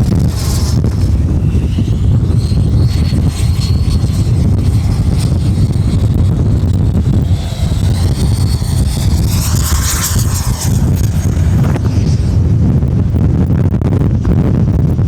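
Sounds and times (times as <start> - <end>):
electric fan high whine: 0.0 - 15.0
wind rumble on microphone: 0.0 - 15.0.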